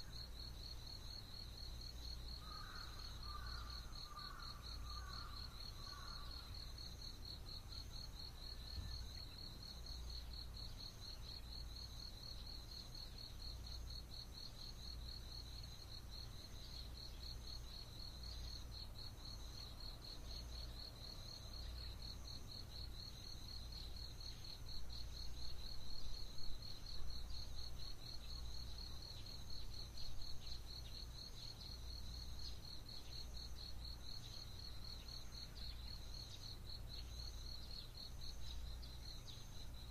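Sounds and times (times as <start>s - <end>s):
high insect chirp: 0.0s - 39.9s.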